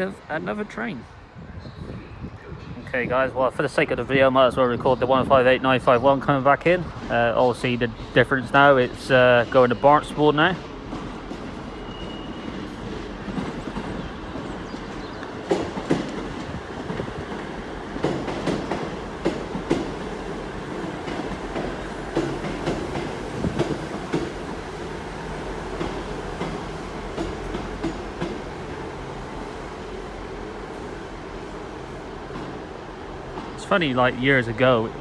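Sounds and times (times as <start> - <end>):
diesel train rumble: 0.0 - 35.0.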